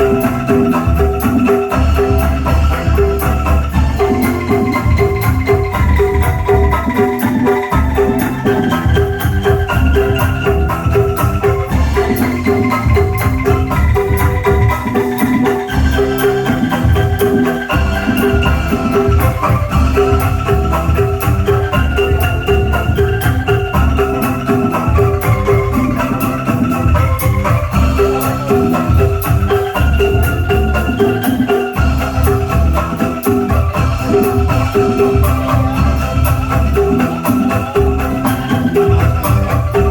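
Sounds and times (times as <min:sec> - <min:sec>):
heavy pulsing bass: 0:00.0 - 0:07.1, 0:07.7 - 0:31.2, 0:31.8 - 0:39.9
bamboo ensemble melody: 0:00.0 - 0:39.9
repeating beat: 0:00.0 - 0:39.9.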